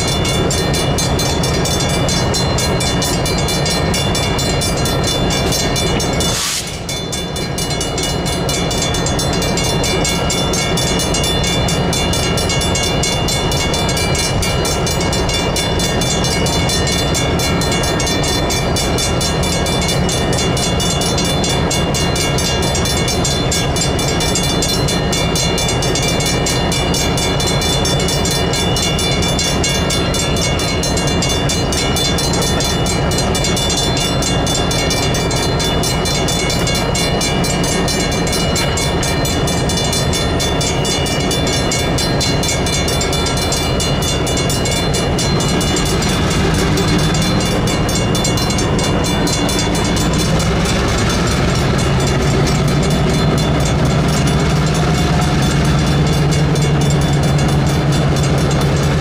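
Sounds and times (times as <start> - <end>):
diesel locomotive engine: 0.0 - 59.0
railroad crossing bells ringing: 0.0 - 59.0.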